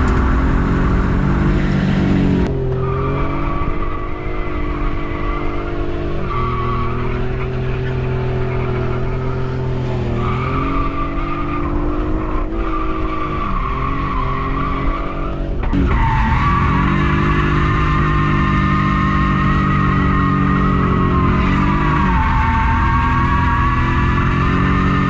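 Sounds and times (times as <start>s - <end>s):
car engine at high revs: 0.0s - 25.0s
tyres skidding: 0.0s - 25.0s.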